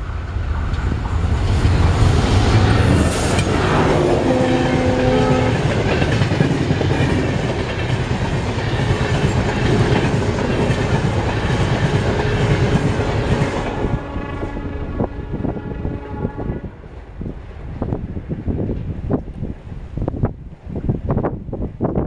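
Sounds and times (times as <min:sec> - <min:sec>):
train coaches passing at speed: 0:00.0 - 0:21.8.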